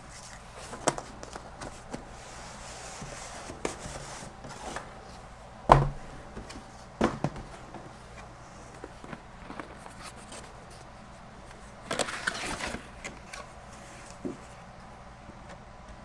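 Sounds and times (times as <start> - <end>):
cardboard rustling and scraping: 0.0 - 5.3, 6.3 - 14.6.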